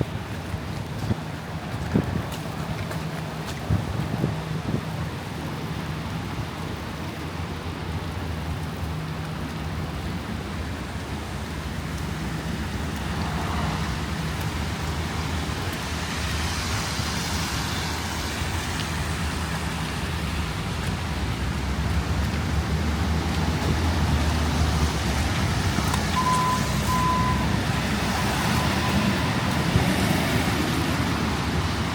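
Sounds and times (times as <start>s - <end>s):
low engine hum: 0.0s - 31.9s
road noise: 0.0s - 31.9s.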